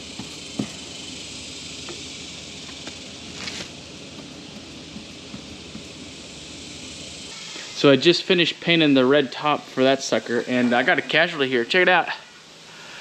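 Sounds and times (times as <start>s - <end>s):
high-pitched background hiss: 0.0s - 13.0s.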